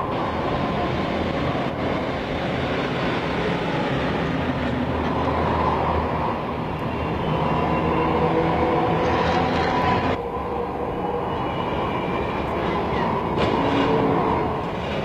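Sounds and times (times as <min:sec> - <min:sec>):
tram engine drone: 0:00.0 - 0:15.0
wheels rumbling on rail: 0:00.0 - 0:15.0.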